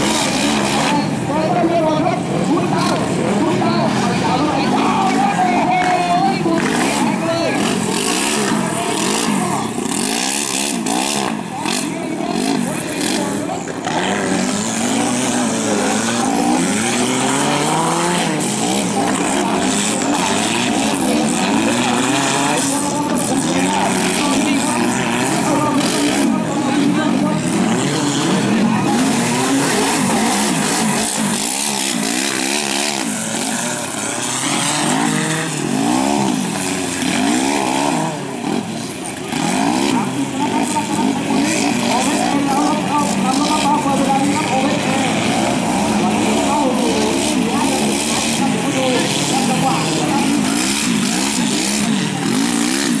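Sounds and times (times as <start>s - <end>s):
off-road vehicle engines revving: 0.0s - 53.0s.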